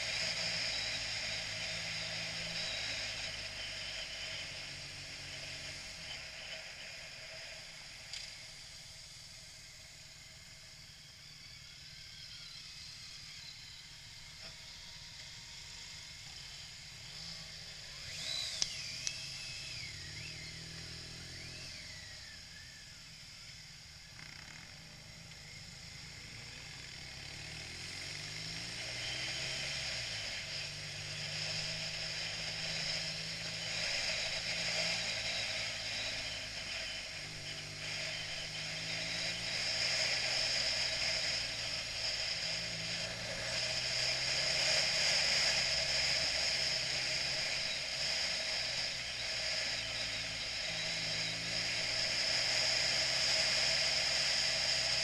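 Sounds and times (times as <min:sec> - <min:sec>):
wind and road noise: 0:00.0 - 0:10.8, 0:15.9 - 0:55.0
motorcycle engine revving: 0:00.0 - 0:55.0.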